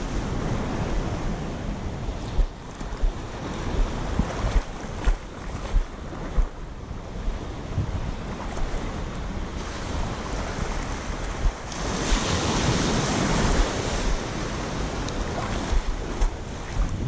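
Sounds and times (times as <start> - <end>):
surf waves breaking: 0.0 - 17.0
wind buffeting microphone: 0.0 - 17.0.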